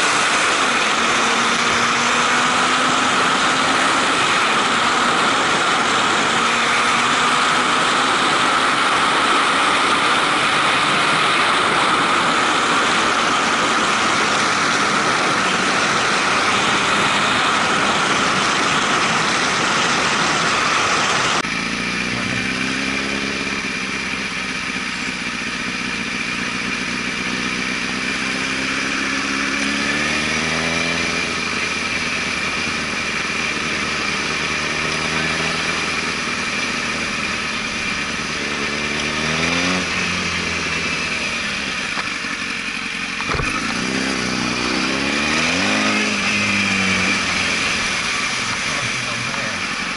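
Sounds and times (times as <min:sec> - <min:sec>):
motorcycle engine running: 0:00.0 - 0:49.9
wind and road noise: 0:00.0 - 0:49.9.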